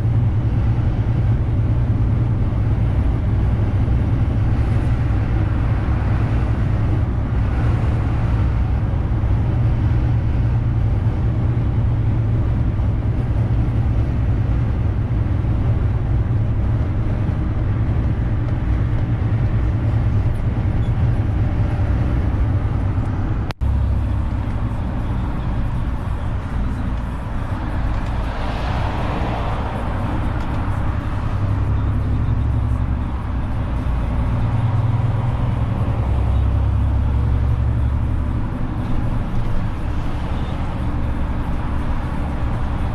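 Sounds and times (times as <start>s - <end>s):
diesel truck engine droning: 0.0s - 42.9s
rushing noise: 0.0s - 42.9s.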